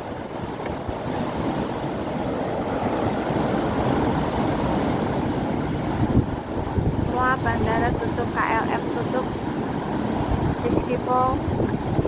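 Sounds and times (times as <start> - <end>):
storm wind buffeting microphone: 0.0 - 12.0.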